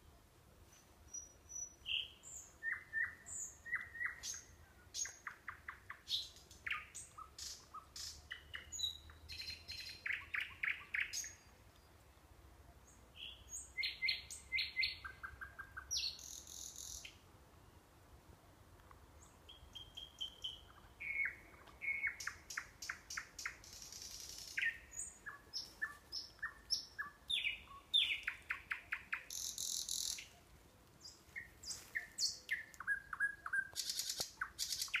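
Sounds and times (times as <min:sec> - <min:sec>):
nightingale singing: 0:01.1 - 0:11.9, 0:12.8 - 0:17.8, 0:19.2 - 0:35.0.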